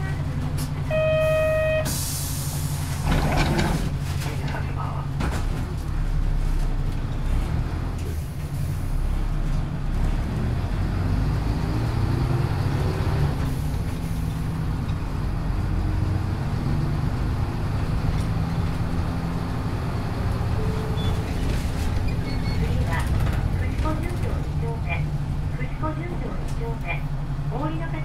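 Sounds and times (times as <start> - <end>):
bus diesel engine accelerating: 0.0 - 28.0
road noise: 0.0 - 28.0.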